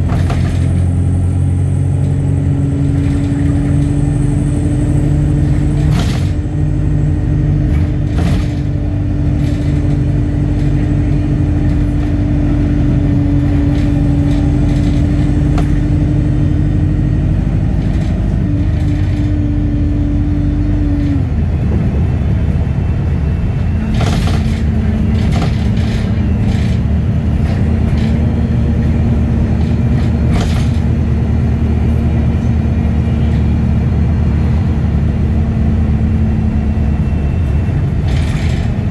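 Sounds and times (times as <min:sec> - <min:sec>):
bus engine and road drone: 0:00.0 - 0:38.9.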